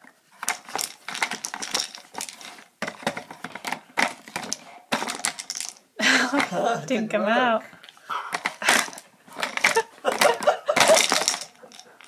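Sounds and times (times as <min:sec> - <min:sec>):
plastic tubes clattering: 0:00.0 - 0:07.0, 0:07.8 - 0:12.0.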